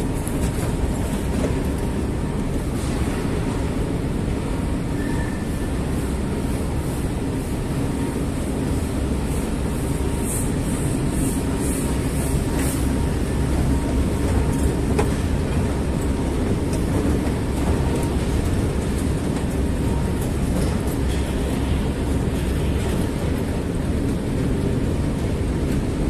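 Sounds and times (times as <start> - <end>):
escalator mechanical rumble: 0.0 - 26.0.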